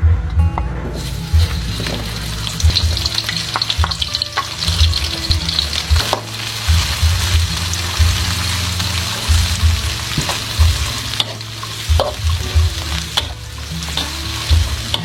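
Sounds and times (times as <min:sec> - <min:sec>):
food sizzling in a pan: 0:01.0 - 0:15.0.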